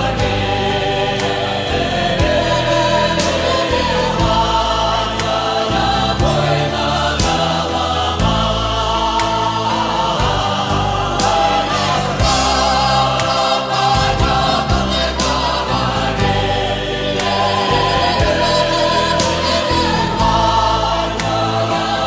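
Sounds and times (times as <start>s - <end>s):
steady bass notes: 0.0s - 22.0s
sustained sung chords: 0.0s - 22.0s.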